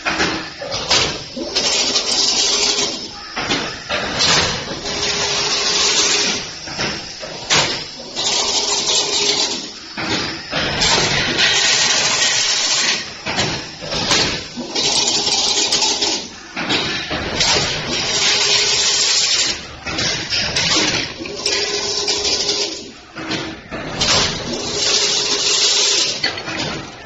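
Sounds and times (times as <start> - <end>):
fence weaving machine clattering: 0.0 - 27.0.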